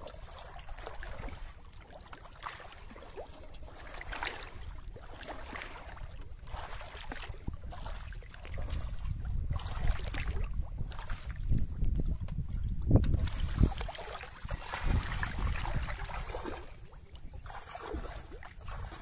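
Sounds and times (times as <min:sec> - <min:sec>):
water splashing around wading legs: 0:00.0 - 0:19.0
wind rumbling on microphone: 0:03.6 - 0:19.0.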